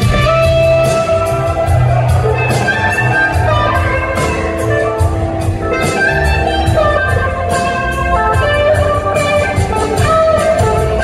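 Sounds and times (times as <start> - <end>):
bass guitar: 0.0 - 11.0
drums with cymbals: 0.0 - 11.0
electric guitar lead: 0.0 - 11.0
keyboards: 0.0 - 11.0.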